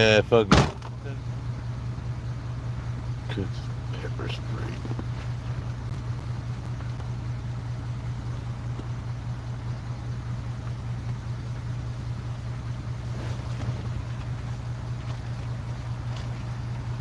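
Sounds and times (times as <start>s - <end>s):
generator engine humming: 0.0s - 17.0s.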